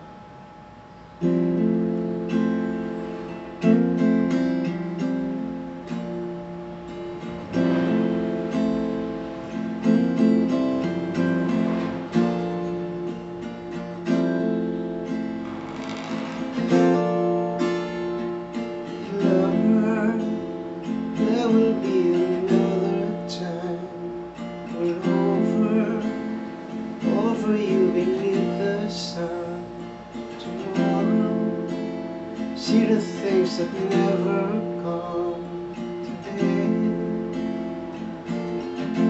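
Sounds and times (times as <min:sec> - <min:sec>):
acoustic guitar chords: 0:00.0 - 0:39.0.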